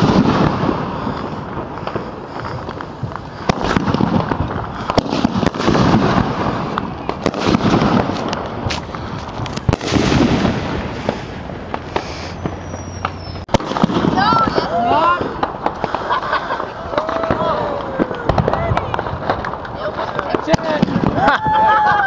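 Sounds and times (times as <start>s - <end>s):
firework cracks and pops: 0.0s - 22.0s
low rumble of firework bursts: 0.0s - 22.0s.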